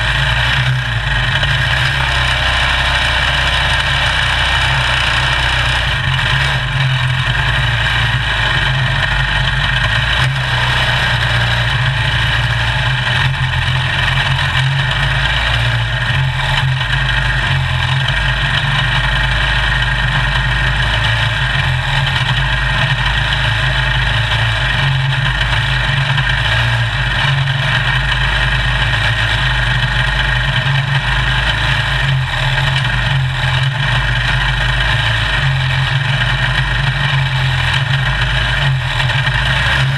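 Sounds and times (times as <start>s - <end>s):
race car engine idling: 0.0s - 39.9s.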